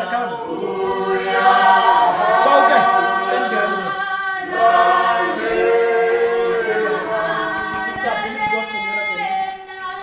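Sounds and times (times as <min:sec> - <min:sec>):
choir singing without instruments: 0:00.0 - 0:10.0.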